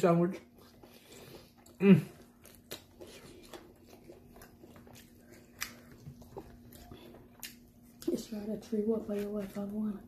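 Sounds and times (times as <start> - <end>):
person chewing: 0.3 - 9.8.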